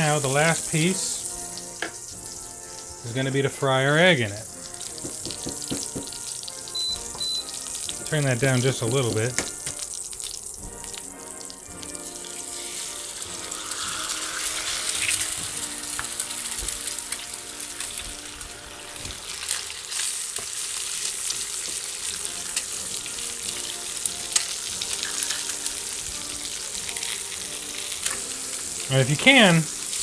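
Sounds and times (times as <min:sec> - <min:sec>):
egg sizzling in a skillet: 0:00.0 - 0:30.0.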